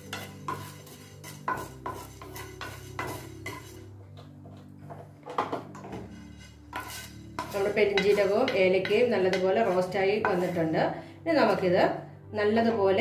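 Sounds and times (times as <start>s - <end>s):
wooden spatula scraping in a pan: 0.0s - 11.7s.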